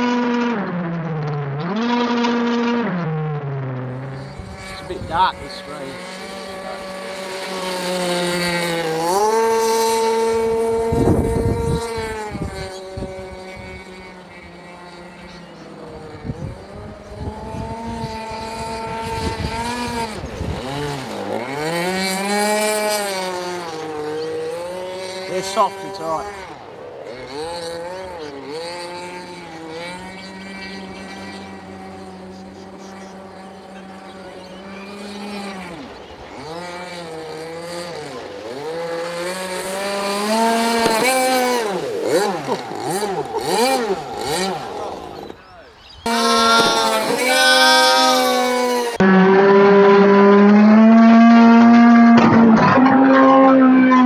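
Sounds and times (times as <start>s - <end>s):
two-stroke boat engine running: 0.0s - 53.1s.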